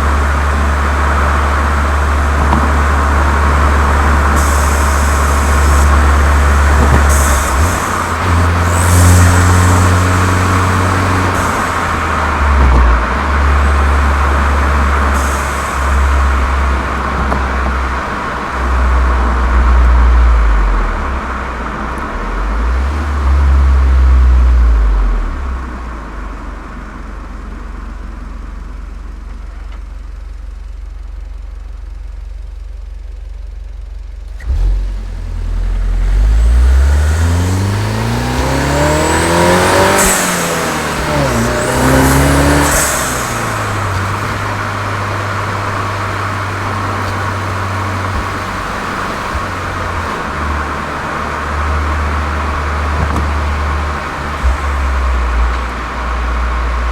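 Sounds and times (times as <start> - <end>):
car engine revving: 0.0 - 26.4, 34.3 - 56.9.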